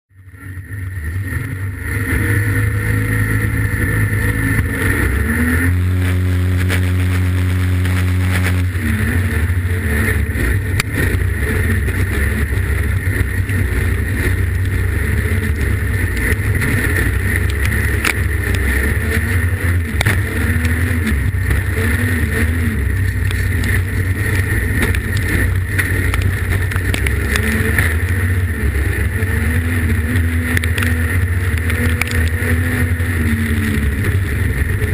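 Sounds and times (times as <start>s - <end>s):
race car engine: 0.1s - 34.9s
steady high whine: 0.1s - 34.9s.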